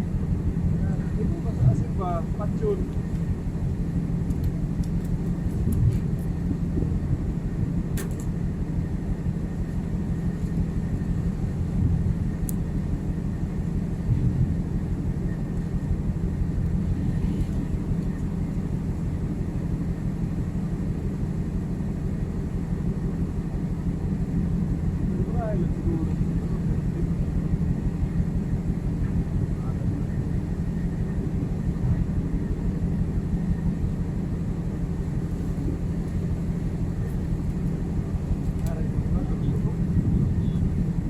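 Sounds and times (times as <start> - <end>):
low machinery drone: 0.0 - 41.0.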